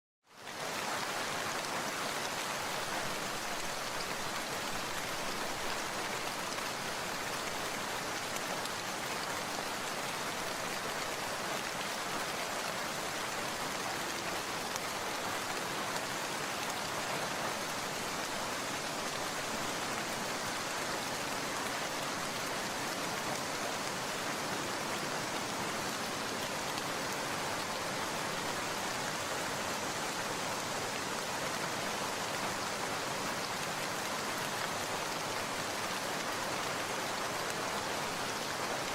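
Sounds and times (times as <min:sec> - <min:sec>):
steady rain falling: 0:00.3 - 0:38.9.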